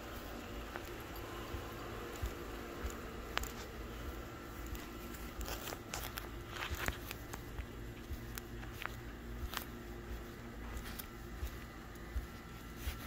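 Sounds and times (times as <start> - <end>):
faint steady hum: 0.0 - 13.0
footsteps in socks on concrete: 0.0 - 13.0.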